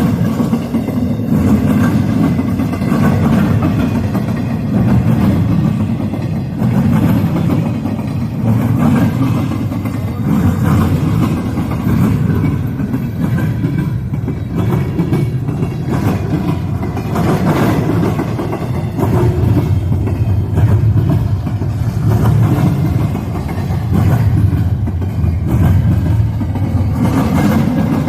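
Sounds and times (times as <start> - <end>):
freight train rumbling past: 0.0 - 28.0
wheels clicking over rail: 0.0 - 28.0.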